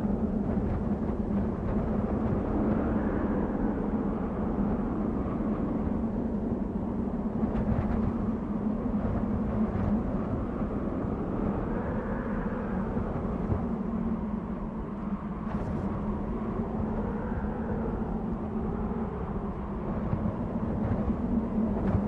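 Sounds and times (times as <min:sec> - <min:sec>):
wind blowing with low moan: 0:00.0 - 0:22.0.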